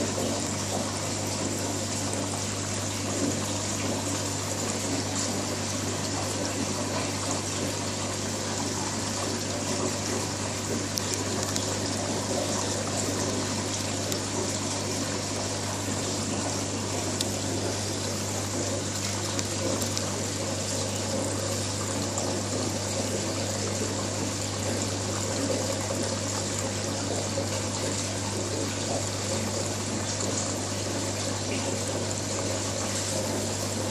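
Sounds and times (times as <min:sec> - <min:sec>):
low pump hum: 0:00.0 - 0:33.9
water trickling and rushing: 0:00.0 - 0:33.9.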